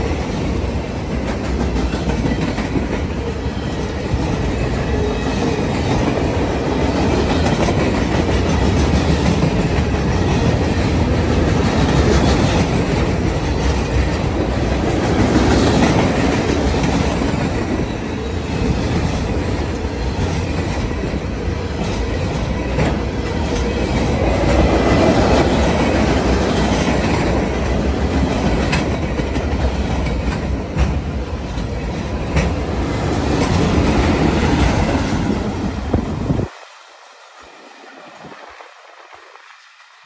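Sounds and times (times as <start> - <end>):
wheels clacking over rail joints: 0.0 - 36.0
train rail noise: 0.0 - 40.0.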